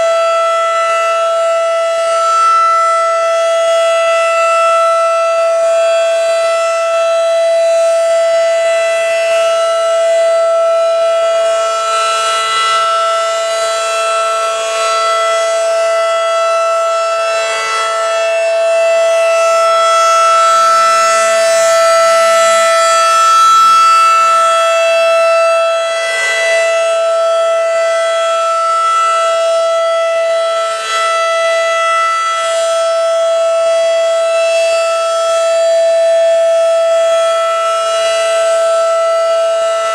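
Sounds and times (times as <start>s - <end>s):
civil defense siren steady tone: 0.0s - 39.9s.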